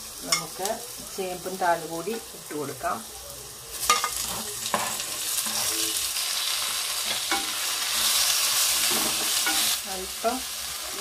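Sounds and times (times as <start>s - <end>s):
frying sizzle: 0.0s - 11.0s.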